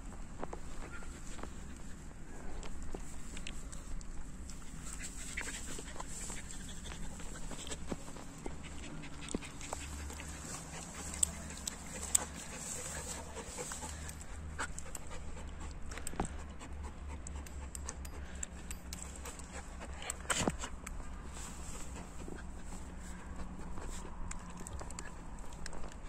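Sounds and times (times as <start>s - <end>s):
dog panting: 0.7s - 26.0s.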